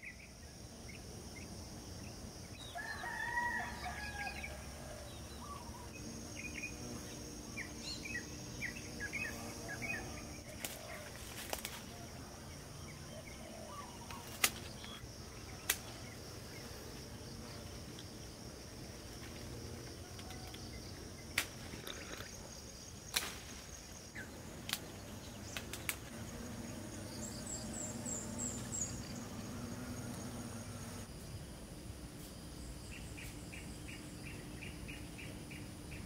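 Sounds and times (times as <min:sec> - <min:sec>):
insect chorus: 0:00.0 - 0:36.0.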